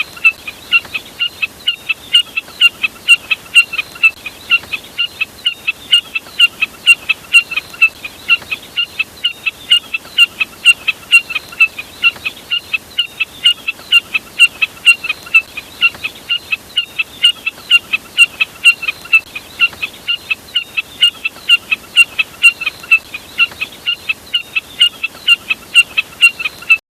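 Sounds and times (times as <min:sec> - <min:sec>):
bird calling rapid high calls: 0:00.0 - 0:26.8.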